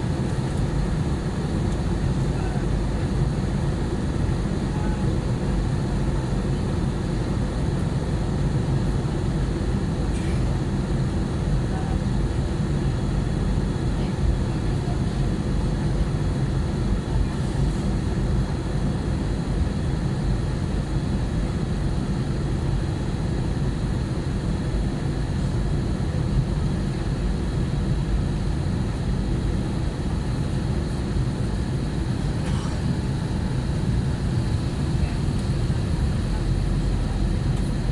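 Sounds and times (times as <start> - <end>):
jet cabin engine rumble: 0.0 - 37.9.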